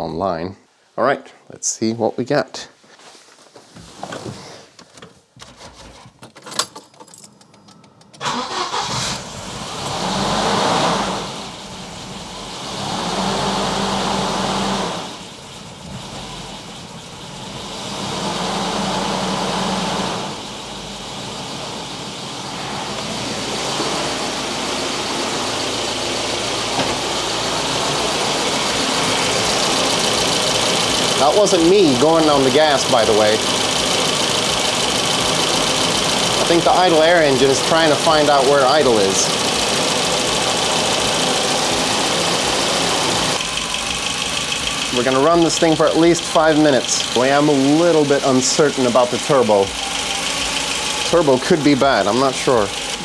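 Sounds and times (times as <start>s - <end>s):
car engine starting and idling: 7.8s - 53.0s.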